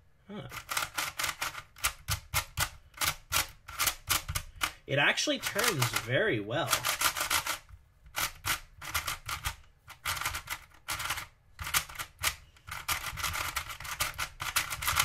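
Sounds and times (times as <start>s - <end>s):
plastic puzzle cube clicking: 0.5s - 4.8s, 5.4s - 15.0s.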